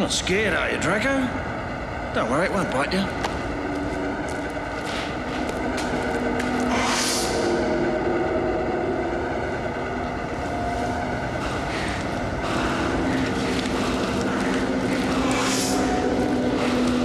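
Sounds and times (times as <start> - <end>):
rumbling hum: 0.0 - 17.0
synthesizer drone: 0.0 - 17.0.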